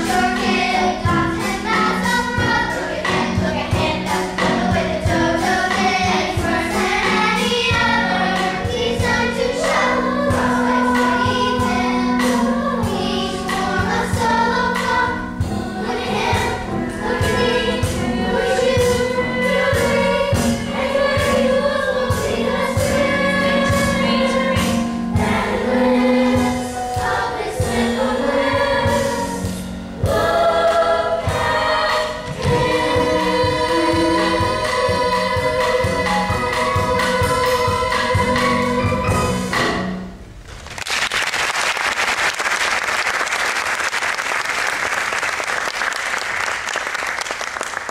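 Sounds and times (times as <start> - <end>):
young voices singing together: 0.0 - 40.0
instrumental accompaniment: 0.0 - 40.6.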